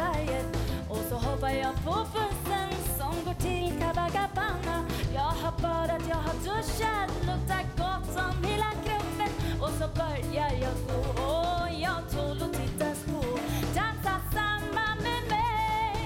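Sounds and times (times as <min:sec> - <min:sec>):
live band playing upbeat song: 0:00.0 - 0:16.0
steady bass: 0:00.0 - 0:16.0.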